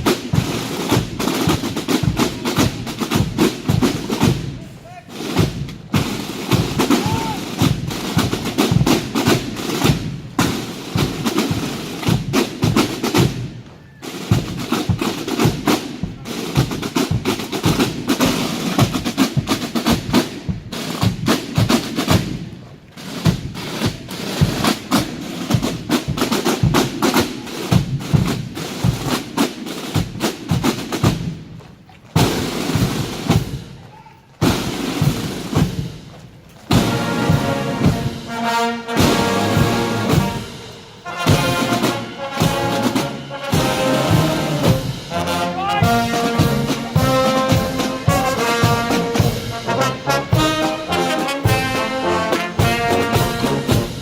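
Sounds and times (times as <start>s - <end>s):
snare drums playing rolls: 0.0s - 54.0s.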